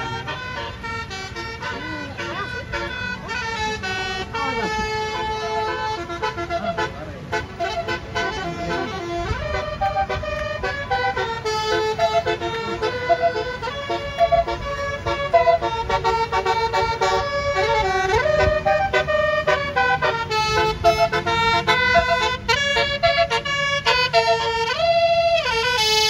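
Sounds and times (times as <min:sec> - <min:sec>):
multi-trumpet bus horn tune: 0:00.0 - 0:26.0.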